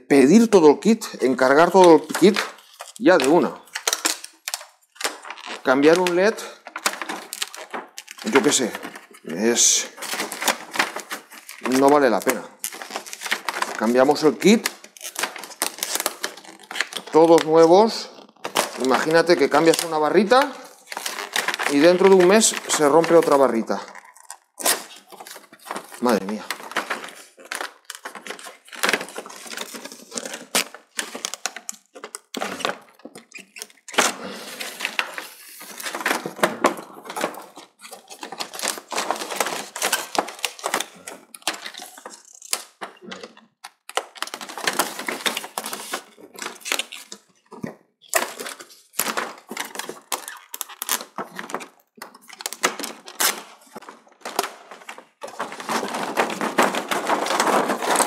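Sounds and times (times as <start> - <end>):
hands handling plastic and metal parts: 1.3 - 58.0.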